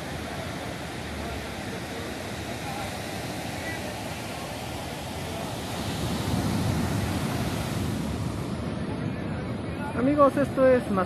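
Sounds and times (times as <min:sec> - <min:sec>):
small waves breaking on sand: 0:00.0 - 0:11.0.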